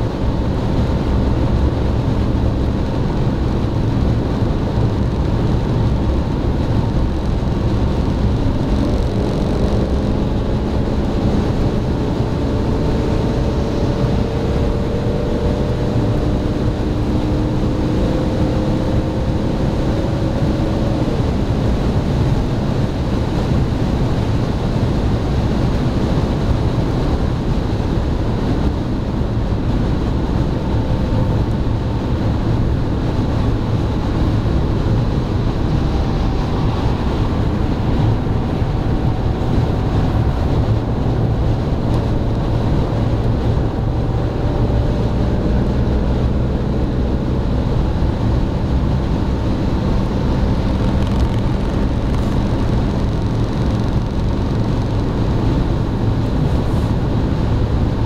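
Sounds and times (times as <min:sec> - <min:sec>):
diesel engine running: 0:00.0 - 0:58.0
road and wind noise in car: 0:00.0 - 0:58.0.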